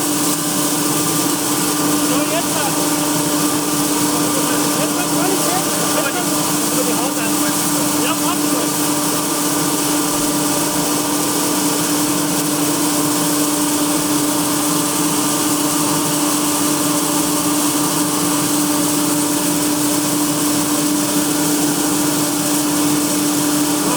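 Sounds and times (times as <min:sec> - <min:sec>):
combine harvester running: 0:00.0 - 0:23.9.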